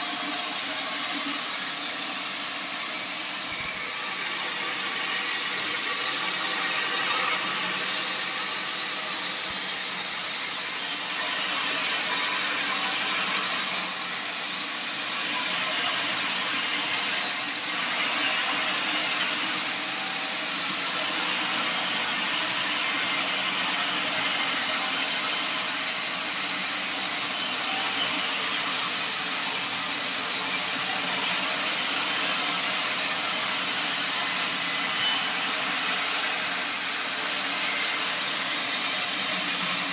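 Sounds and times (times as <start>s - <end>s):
saw cutting a log: 0.0s - 39.9s.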